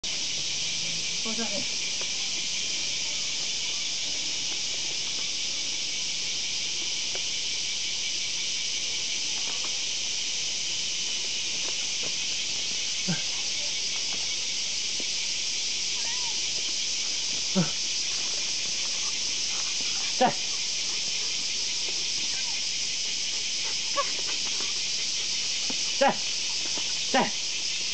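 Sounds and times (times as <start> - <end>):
cicadas chorus: 0.0 - 27.9.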